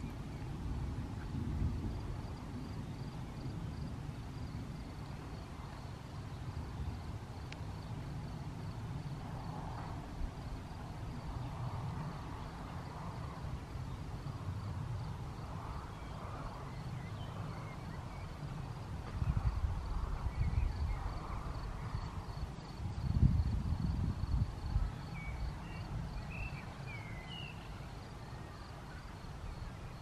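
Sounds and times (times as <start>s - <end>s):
wind buffeting microphone: 0.0s - 27.8s.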